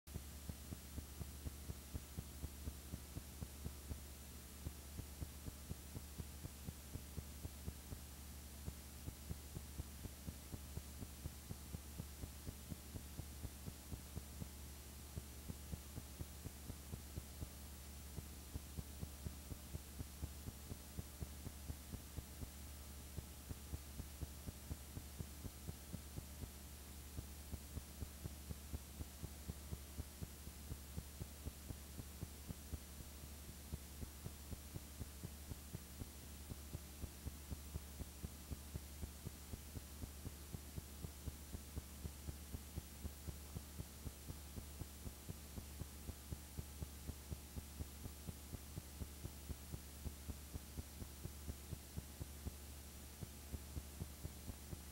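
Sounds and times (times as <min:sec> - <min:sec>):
faint regular ticks: 0:00.1 - 0:54.9
low electrical hum: 0:00.1 - 0:54.9.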